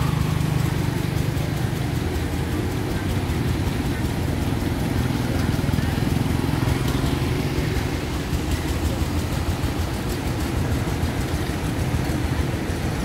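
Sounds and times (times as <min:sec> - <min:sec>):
fire truck engine droning: 0:00.0 - 0:13.0.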